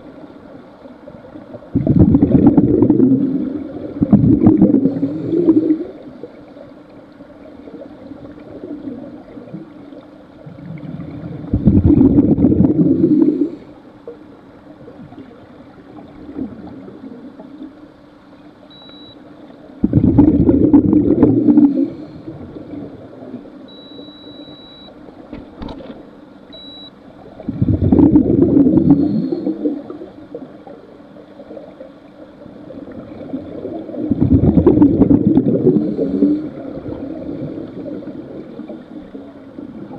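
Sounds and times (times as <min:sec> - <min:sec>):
exhaled bubbles rushing underwater: 0:00.0 - 0:18.0, 0:19.4 - 0:23.9, 0:27.1 - 0:39.9.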